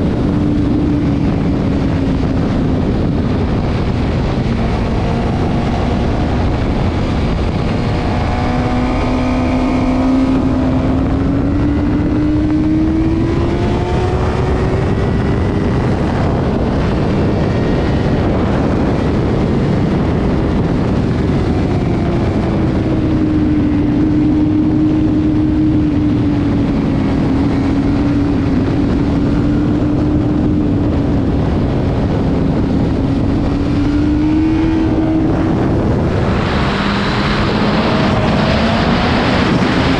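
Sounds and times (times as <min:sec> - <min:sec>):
heavy wind rush: 0:00.0 - 0:39.9
motorcycle engine at speed: 0:00.0 - 0:39.9.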